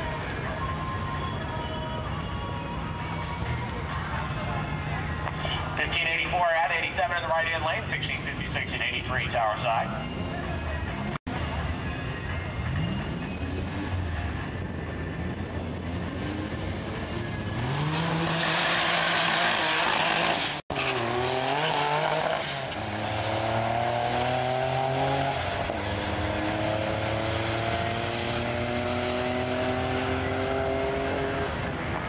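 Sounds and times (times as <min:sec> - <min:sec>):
race car engines accelerating: 0:00.0 - 0:32.0.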